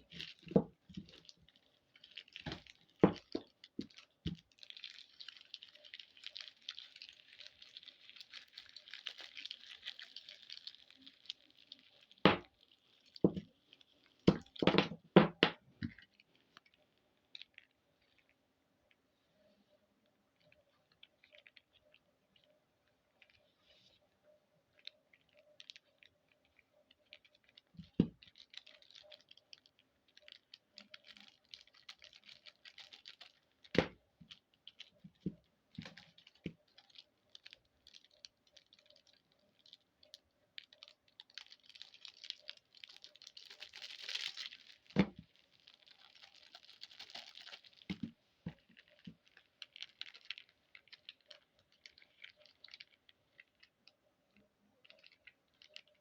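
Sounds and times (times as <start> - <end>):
plastic wrappers crinkling: 0.0 - 19.7, 20.3 - 56.0.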